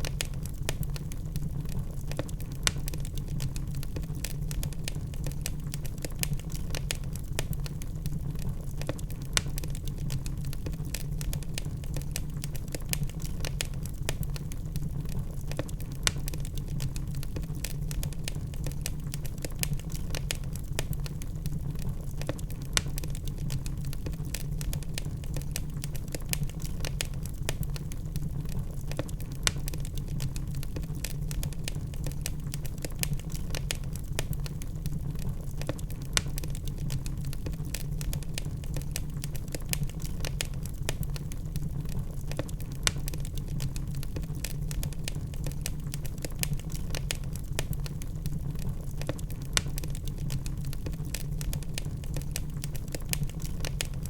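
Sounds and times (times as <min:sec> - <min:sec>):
fire flames rumbling: 0:00.0 - 0:54.0
logs crackling and popping: 0:00.0 - 0:54.0.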